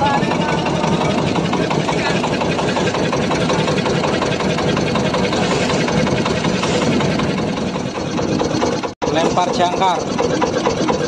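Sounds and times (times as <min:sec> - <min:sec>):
boat engine chugging: 0:00.0 - 0:11.0
water noise: 0:00.0 - 0:11.0.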